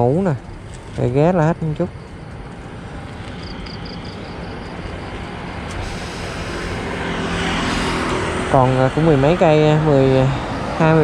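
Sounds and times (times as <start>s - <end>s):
engine hum: 0.0s - 11.0s
road vehicle noise: 0.0s - 11.0s.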